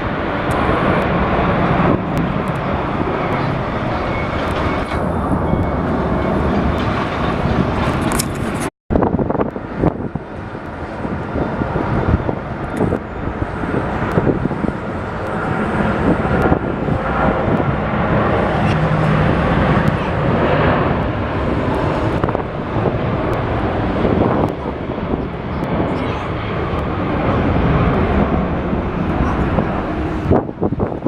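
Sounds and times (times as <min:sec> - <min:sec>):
jet engine rumble: 0:00.0 - 0:31.0
wind buffeting microphone: 0:00.0 - 0:31.0.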